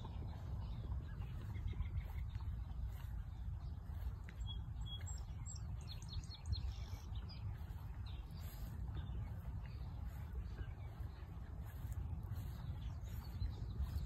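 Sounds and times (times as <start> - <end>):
small birds chirping: 0.0 - 14.0
wind rumbling on microphone: 0.0 - 14.0.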